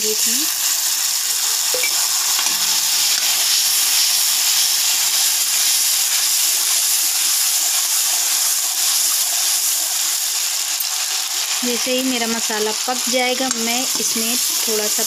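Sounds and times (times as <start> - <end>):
spice paste sizzling in oil: 0.0 - 15.0.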